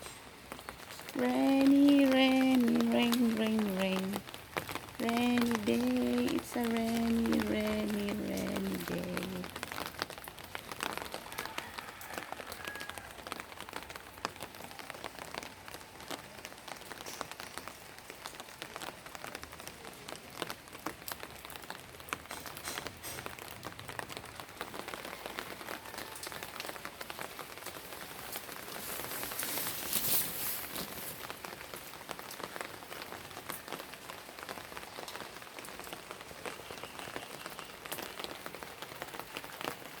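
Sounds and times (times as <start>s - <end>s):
rain pattering on hard surface: 0.0s - 40.0s.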